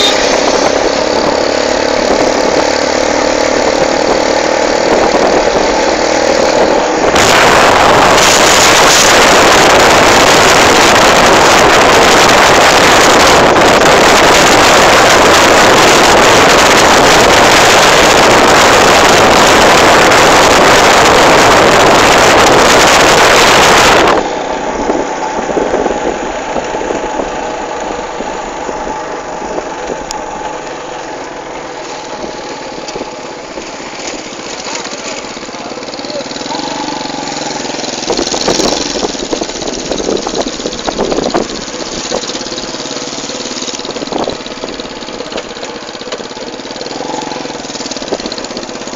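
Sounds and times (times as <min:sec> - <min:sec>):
engine and road rumble: 0:00.0 - 0:48.9
vehicle engine and wind rushing: 0:00.0 - 0:48.9.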